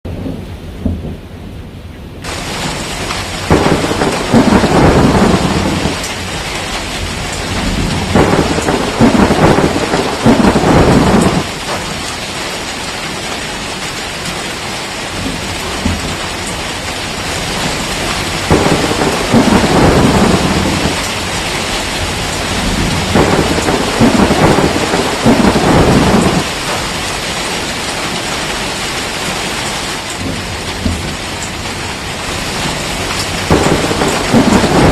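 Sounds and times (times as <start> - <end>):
thunder rumbling: 0.1 - 13.2, 15.1 - 34.9
heavy rain hissing: 2.2 - 34.9.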